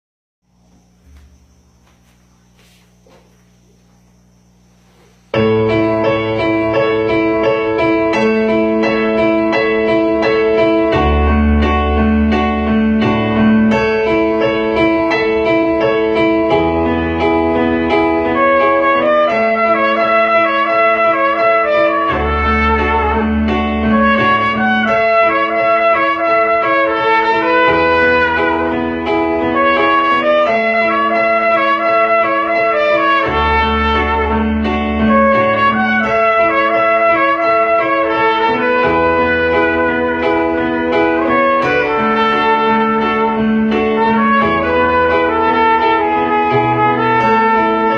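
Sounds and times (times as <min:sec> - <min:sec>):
piano accompaniment: 0:02.9 - 0:47.9
trumpet playing melody: 0:05.4 - 0:47.9.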